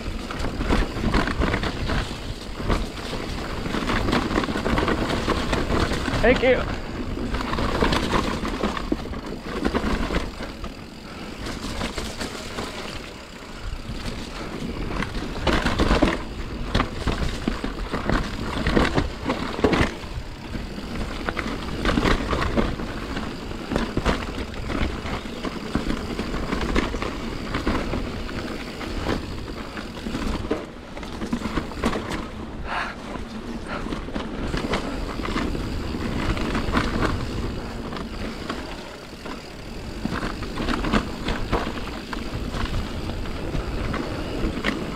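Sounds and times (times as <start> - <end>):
bike frame and chain rattling: 0.0 - 44.9
bike tyres on dirt: 0.0 - 44.9.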